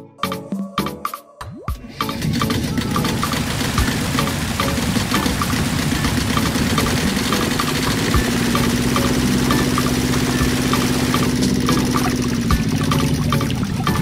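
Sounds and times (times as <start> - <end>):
small engine idling: 2.0 - 14.0.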